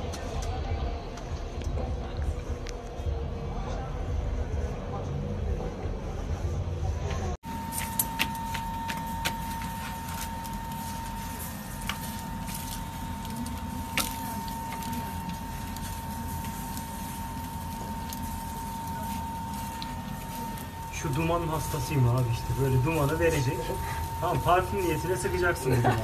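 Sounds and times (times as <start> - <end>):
mechanical hum with whine: 0.0 - 26.0.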